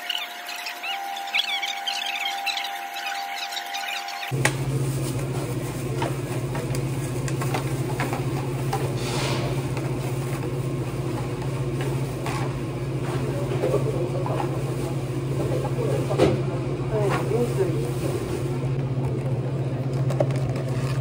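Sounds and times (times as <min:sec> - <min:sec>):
equipment humming: 0:00.0 - 0:21.0.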